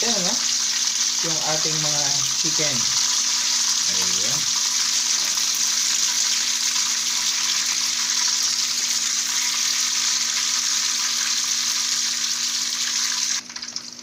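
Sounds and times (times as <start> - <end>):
chicken frying in oil: 0.0 - 14.0.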